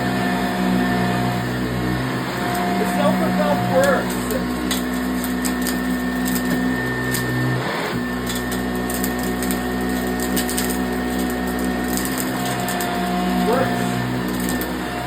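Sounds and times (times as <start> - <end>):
upright vacuum cleaner running: 0.0 - 15.0.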